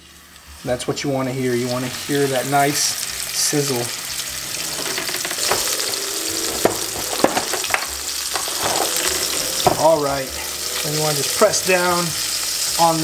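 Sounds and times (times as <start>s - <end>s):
fish sizzling in a pan: 0.0s - 13.0s.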